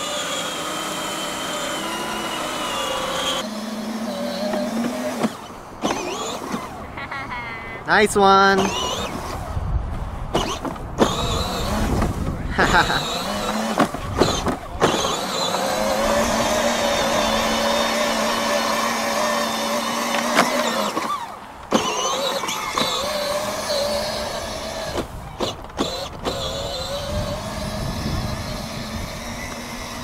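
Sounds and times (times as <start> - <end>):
toy car electric motor whine: 0.0 - 6.8, 8.6 - 9.5, 10.3 - 30.0.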